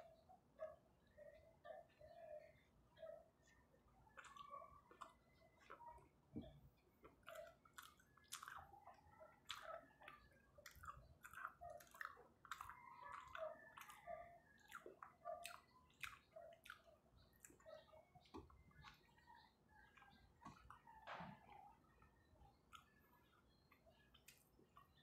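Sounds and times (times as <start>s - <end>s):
chewing with mouth clicks: 3.4s - 25.0s.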